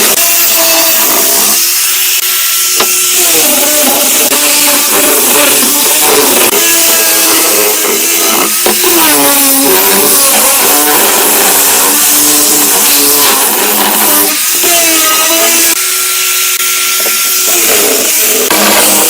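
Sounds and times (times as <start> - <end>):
power tool cutting wood: 0.0 - 19.0.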